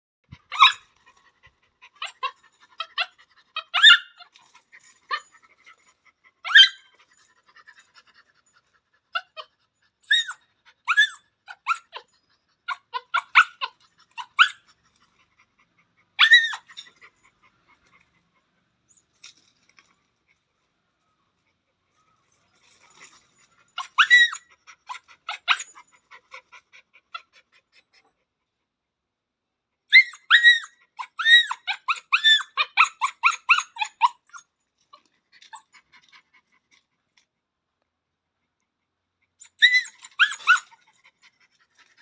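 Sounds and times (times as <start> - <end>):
puppy whimpering and yelping: 0.3 - 20.4, 21.4 - 28.2, 29.8 - 36.9, 39.2 - 42.0.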